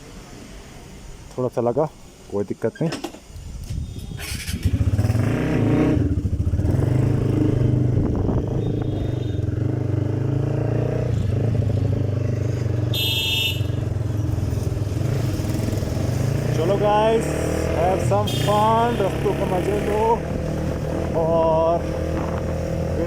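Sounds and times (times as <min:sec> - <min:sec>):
motorcycle engine running: 0:04.2 - 0:23.0.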